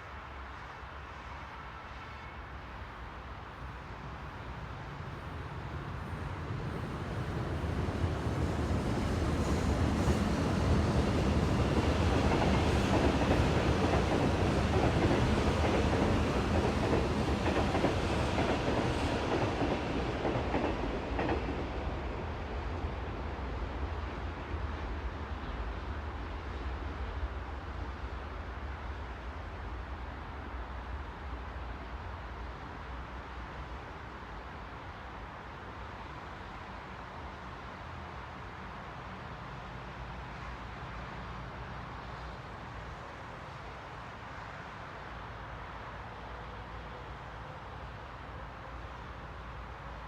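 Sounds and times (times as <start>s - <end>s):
train passing: 0.0s - 50.0s.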